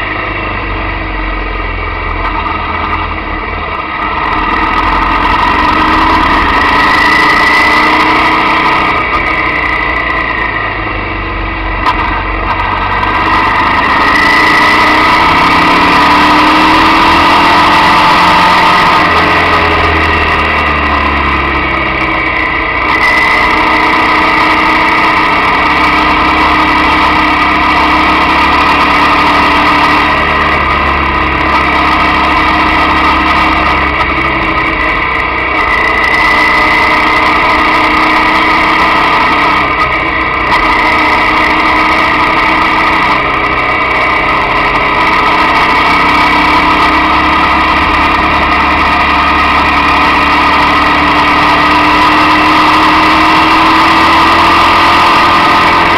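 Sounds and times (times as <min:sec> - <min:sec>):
motorcycle engine running: 0:00.0 - 0:55.9
road noise: 0:00.0 - 0:55.9.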